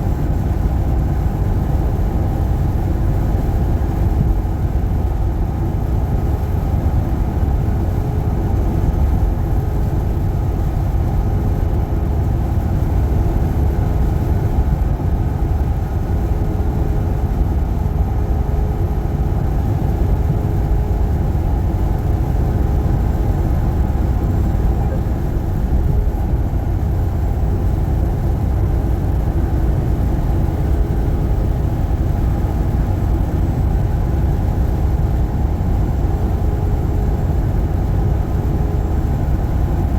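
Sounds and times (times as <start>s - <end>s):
road noise: 0.0s - 39.9s
truck engine rumble: 0.0s - 39.9s.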